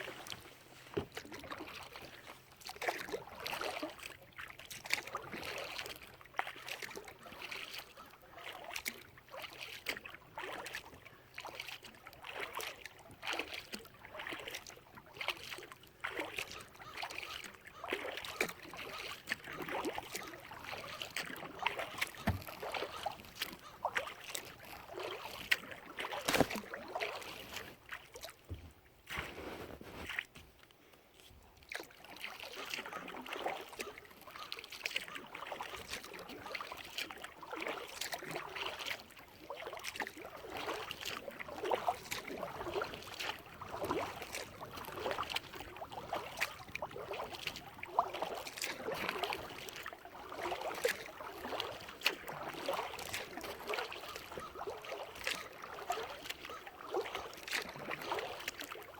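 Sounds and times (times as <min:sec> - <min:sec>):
kayak paddle stroking through water: 0:00.0 - 0:58.9
water splashing and dripping: 0:01.0 - 0:29.2, 0:31.7 - 0:58.9.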